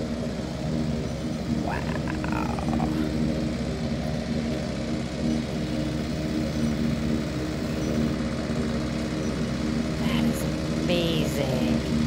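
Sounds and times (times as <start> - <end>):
forage harvester engine running: 0.0 - 12.0.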